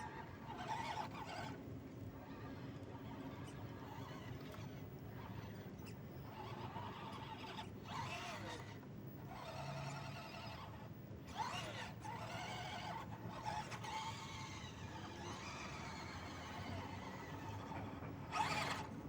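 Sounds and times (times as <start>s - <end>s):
toy truck motor and gear whine: 0.0s - 19.0s.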